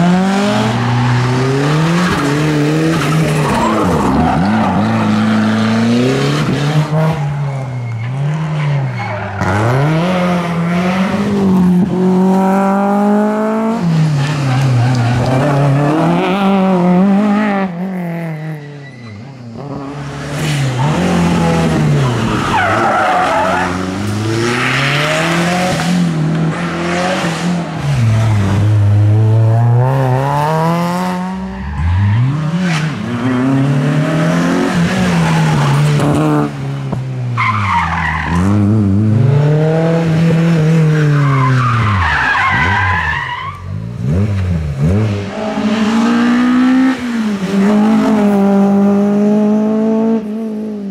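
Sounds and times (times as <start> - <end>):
rally car engine revving: 0.0 - 50.9.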